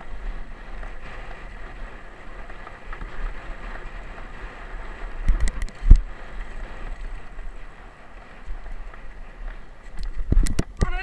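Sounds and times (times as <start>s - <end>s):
tyres rolling on gravel: 0.0s - 11.0s
wind rush on microphone: 0.0s - 11.0s.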